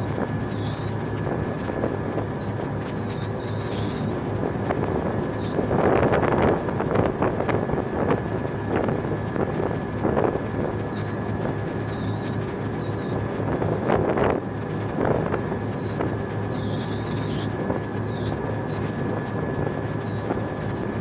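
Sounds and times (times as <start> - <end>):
boat engine humming: 0.0 - 21.0
rushing wind and water: 0.0 - 21.0
wind buffeting microphone: 0.0 - 21.0.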